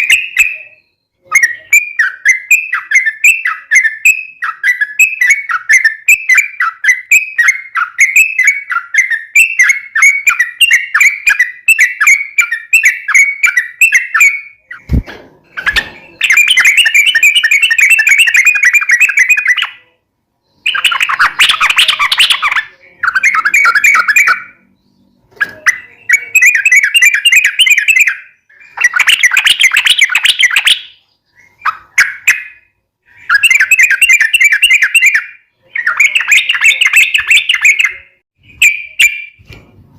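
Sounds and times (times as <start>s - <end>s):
bird chirping and chattering: 0.0s - 39.4s.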